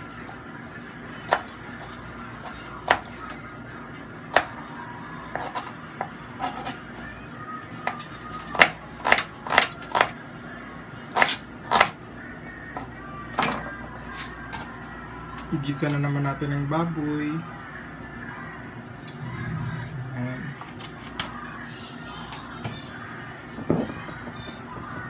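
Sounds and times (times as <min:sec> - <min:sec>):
faint background music: 0:00.0 - 0:25.0.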